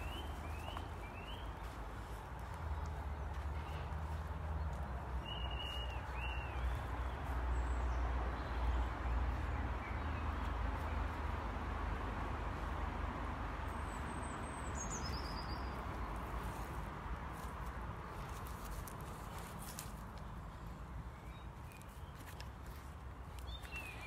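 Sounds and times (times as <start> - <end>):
small birds chirping: 0.0 - 11.4, 13.6 - 24.0.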